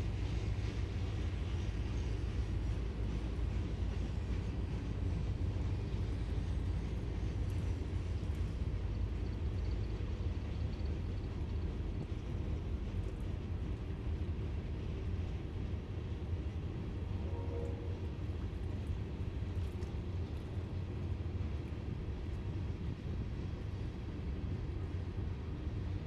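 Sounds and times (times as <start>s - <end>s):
train cars rolling past: 0.0s - 26.0s.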